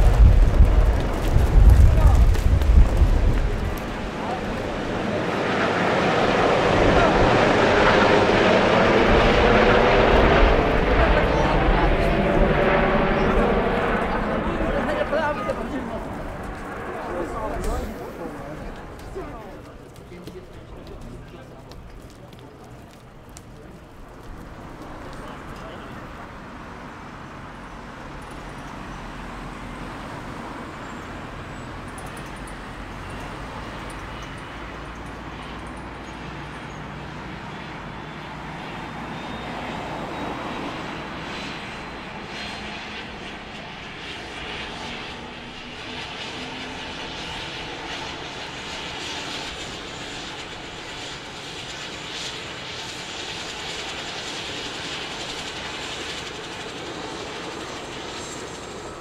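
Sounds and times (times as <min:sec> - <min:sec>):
helicopter engines and rotor drone: 0:00.0 - 0:59.0.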